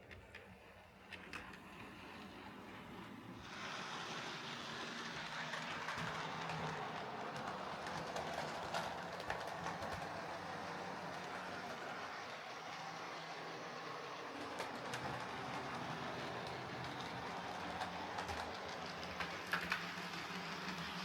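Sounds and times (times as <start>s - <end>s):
wheels clicking on rails: 0.0s - 21.0s
model train motor whirring: 3.4s - 21.0s.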